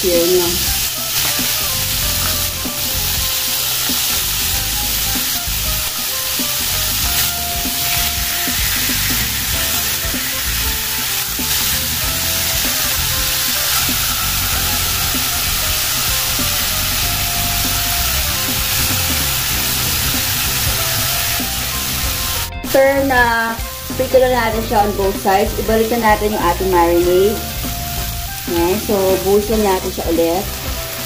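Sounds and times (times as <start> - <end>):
pork sizzling in a frying pan: 0.0 - 31.0.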